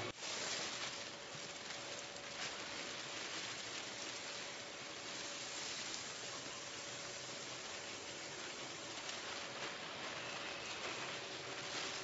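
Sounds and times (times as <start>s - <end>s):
grain pouring onto pile: 0.0s - 12.0s.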